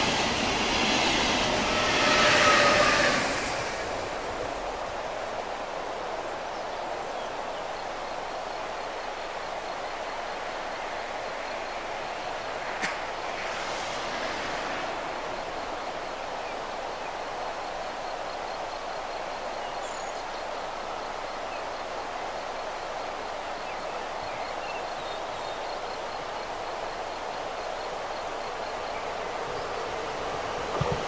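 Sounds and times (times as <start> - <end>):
electric train approaching: 0.0 - 31.0
outdoor background hiss: 0.0 - 31.0.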